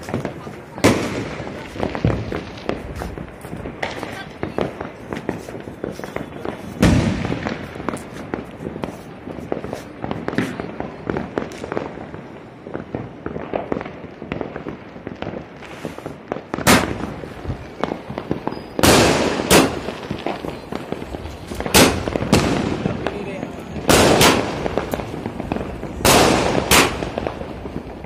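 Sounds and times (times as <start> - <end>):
fireworks crackling pops: 0.0 - 28.0
loud firework bangs: 0.0 - 28.0.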